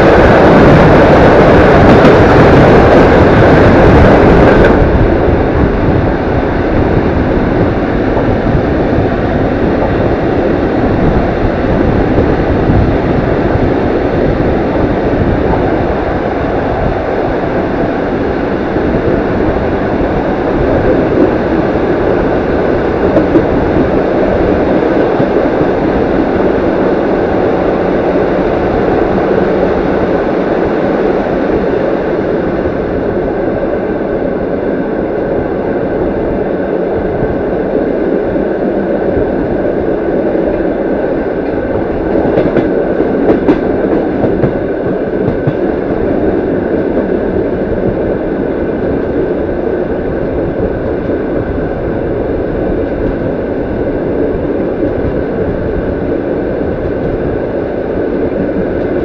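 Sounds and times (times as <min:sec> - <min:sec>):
freight train rushing past: 0:00.0 - 0:59.0
train rumble on track: 0:00.0 - 0:59.0.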